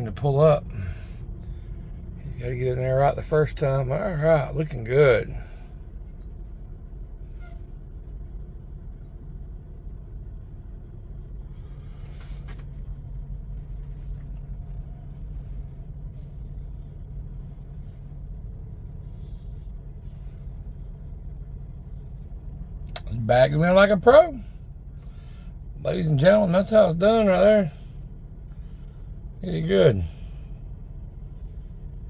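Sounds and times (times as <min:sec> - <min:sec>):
diesel truck engine rumbling: 0:00.0 - 0:32.0.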